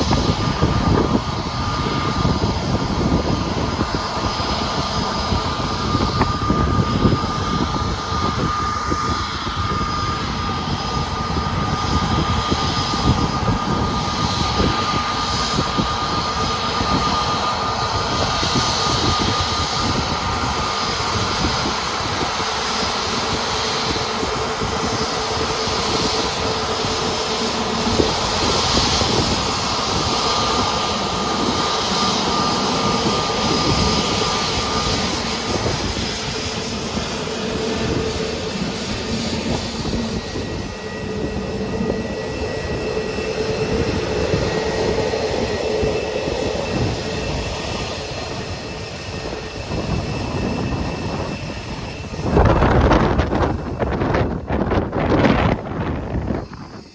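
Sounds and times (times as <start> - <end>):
jet engines running: 0.0 - 56.9.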